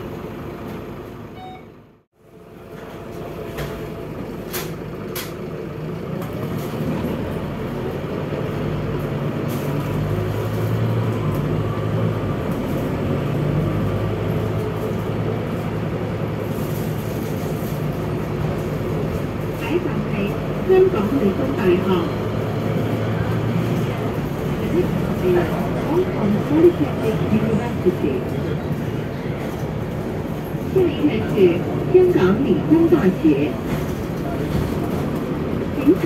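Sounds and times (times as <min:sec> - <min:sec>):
bus diesel engine from inside: 0:00.0 - 0:36.0.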